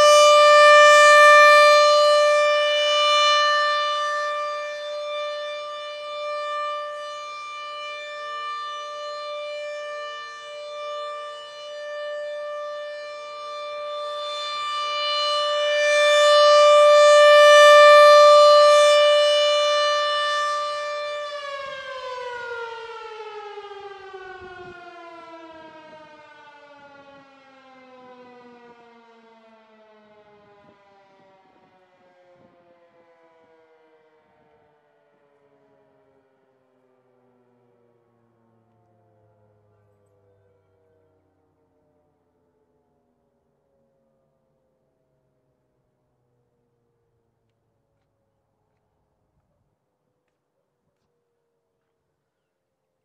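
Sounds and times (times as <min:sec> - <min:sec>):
rotating warning siren: 0:00.0 - 0:45.6.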